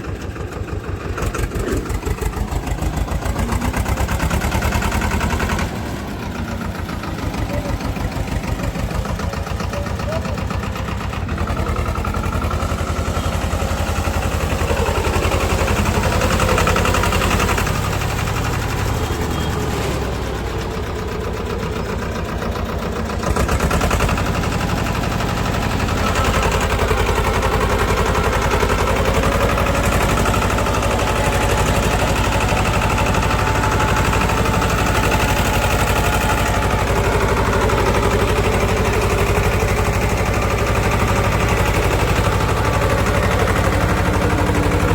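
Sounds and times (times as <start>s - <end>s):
tractor diesel engine chugging: 0.0s - 44.9s.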